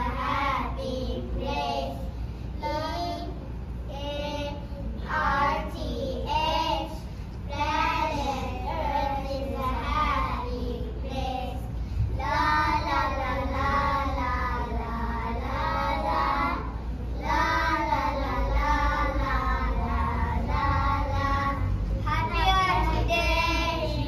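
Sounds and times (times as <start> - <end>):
young children singing: 0.0 - 24.0.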